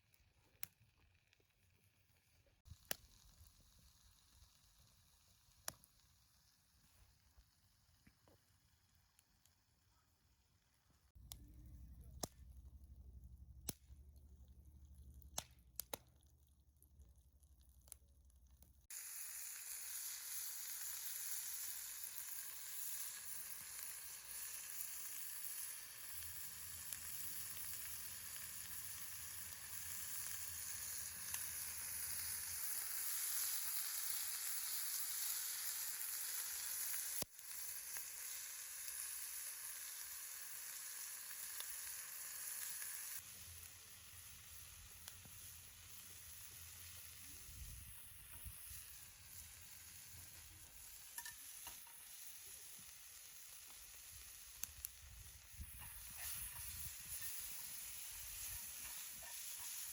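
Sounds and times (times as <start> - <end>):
food sizzling in a pan: 0.8 - 9.8, 18.8 - 59.9.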